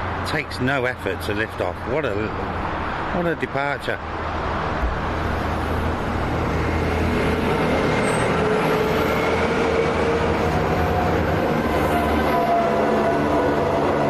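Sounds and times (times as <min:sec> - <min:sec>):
turboprop aircraft engines droning: 0:00.0 - 0:14.0.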